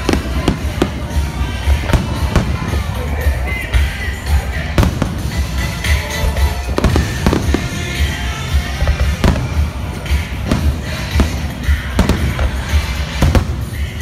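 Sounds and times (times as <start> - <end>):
fireworks bangs: 0.0 - 14.0
music with pulsing bass beat: 0.0 - 14.0.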